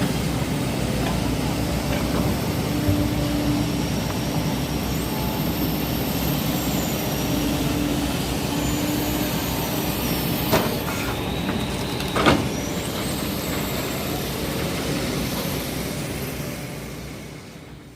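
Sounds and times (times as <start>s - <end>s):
excavator engine running: 0.0s - 17.9s.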